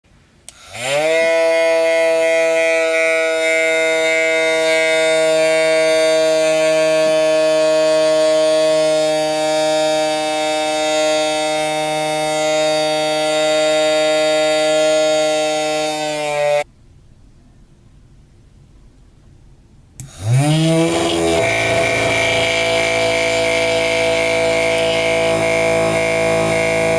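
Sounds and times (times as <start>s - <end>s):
vacuum motor high whine: 0.5s - 16.7s, 20.0s - 26.9s.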